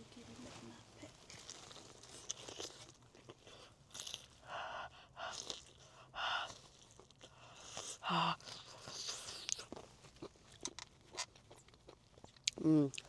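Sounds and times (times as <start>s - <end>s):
person crunching and chewing: 1.2s - 4.5s, 5.1s - 13.0s.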